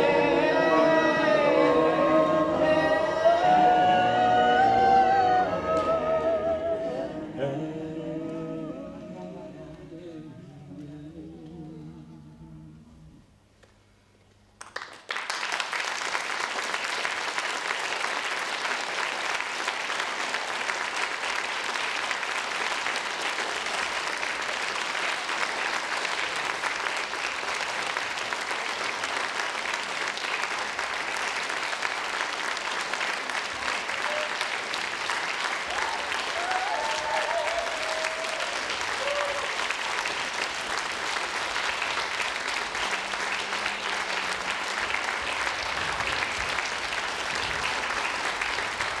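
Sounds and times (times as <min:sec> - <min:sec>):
audience applauding: 0:00.0 - 0:11.6, 0:14.6 - 0:49.0.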